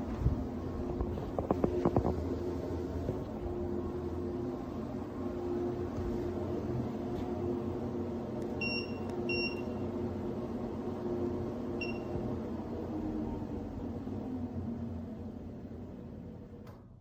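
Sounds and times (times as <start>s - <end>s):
treadmill motor and belt hum: 0.0s - 17.0s.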